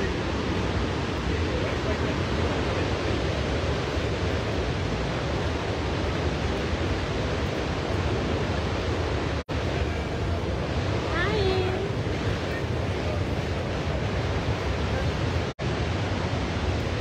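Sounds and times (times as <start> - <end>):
rushing noise with low rumble: 0.0 - 17.0.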